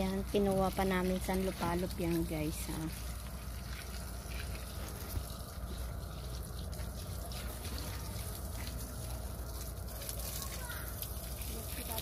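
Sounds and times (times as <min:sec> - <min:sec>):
constant low rumble: 0:00.0 - 0:12.0
hose water trickling on rocks: 0:00.0 - 0:12.0.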